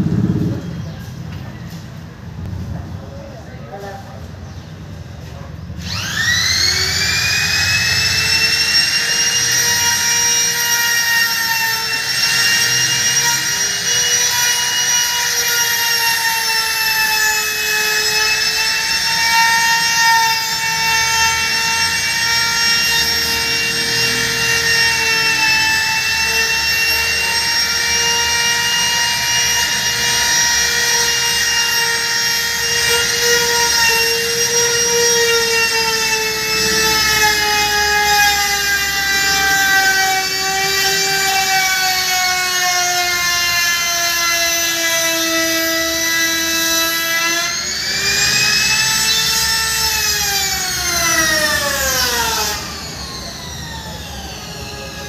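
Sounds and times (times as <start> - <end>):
power tool motor whining: 5.8 - 55.0.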